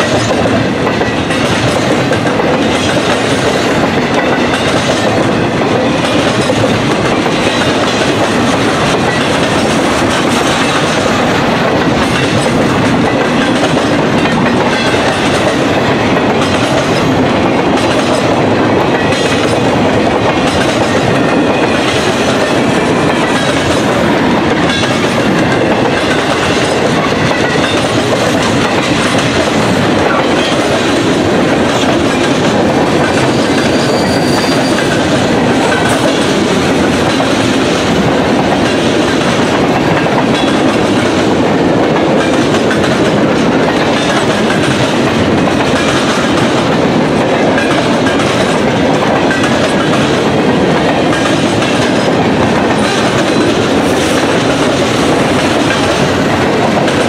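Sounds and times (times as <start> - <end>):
railroad cars rolling past: 0.0 - 57.0.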